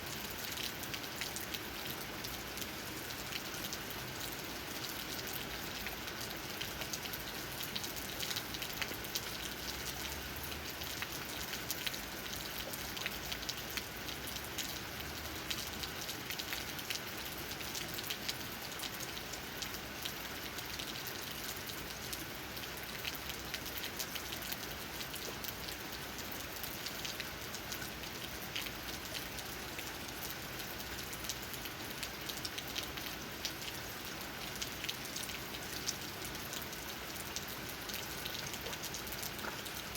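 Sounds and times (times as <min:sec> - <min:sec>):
rain drops tapping on leaves: 0:00.0 - 0:39.9.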